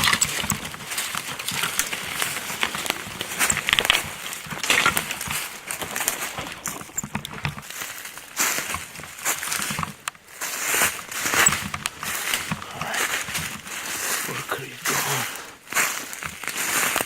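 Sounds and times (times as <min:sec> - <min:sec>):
footsteps through dry brush: 0:00.0 - 0:17.0
twigs and leaves crackling: 0:00.0 - 0:17.0.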